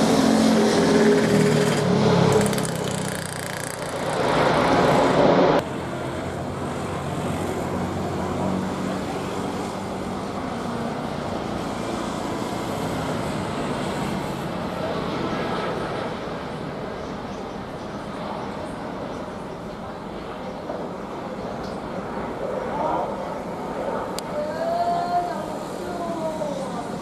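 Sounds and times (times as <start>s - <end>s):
jet engine noise: 0.0s - 27.0s.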